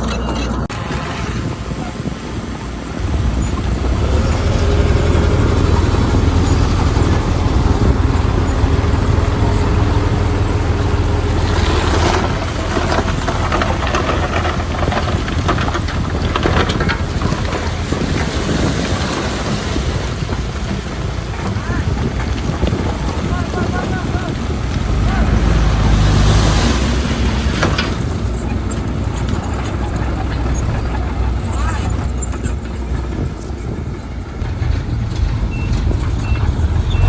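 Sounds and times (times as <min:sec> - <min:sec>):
heavy diesel engine running: 0:00.0 - 0:37.0
rough clattering: 0:00.0 - 0:37.0.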